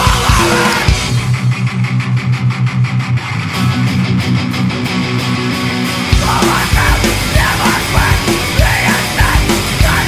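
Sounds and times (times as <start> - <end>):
distorted electric guitar: 0.0 - 10.0
drums: 0.0 - 10.0.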